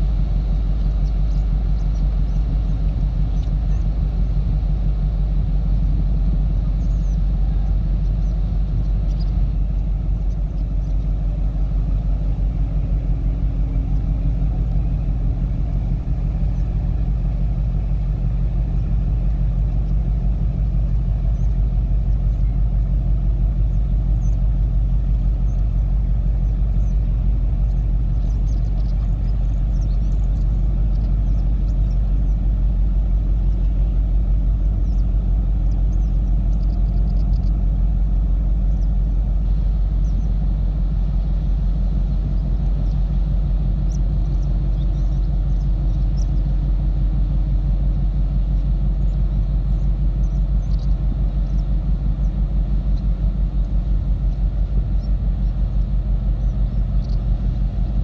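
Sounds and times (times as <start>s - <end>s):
low pulsing rumble: 0.0s - 58.0s.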